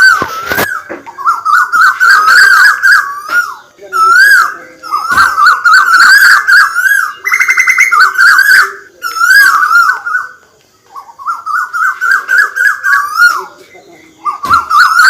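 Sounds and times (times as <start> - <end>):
bird chattering call: 0.0 - 15.0.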